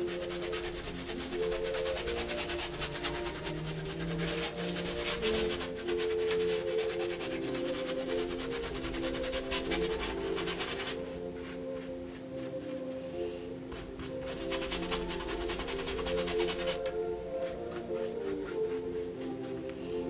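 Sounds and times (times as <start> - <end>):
paintbrush scrubbing on canvas: 0.0 - 13.0, 13.7 - 19.7
slow music with held notes: 0.0 - 20.0.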